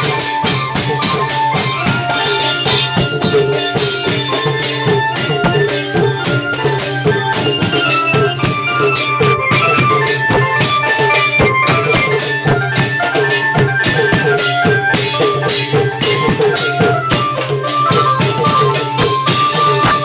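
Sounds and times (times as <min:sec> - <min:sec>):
drums beating driving rhythm: 0:00.0 - 0:20.0
high melody line: 0:00.0 - 0:20.0
rattling percussion: 0:00.0 - 0:20.0.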